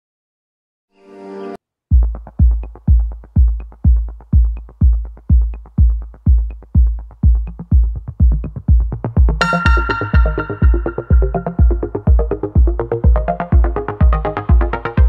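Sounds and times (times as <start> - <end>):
electronic dance music: 2.3 - 15.0.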